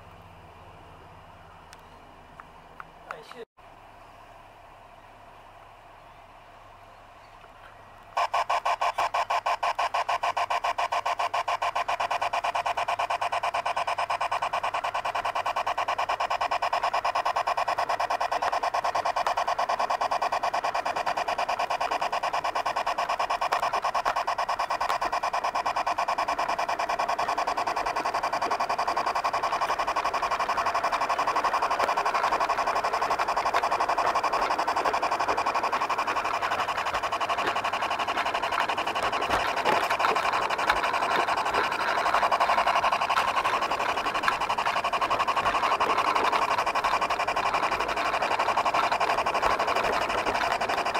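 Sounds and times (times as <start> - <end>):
constant tone: 5.0 - 50.9
model locomotive pulsing: 7.4 - 50.9.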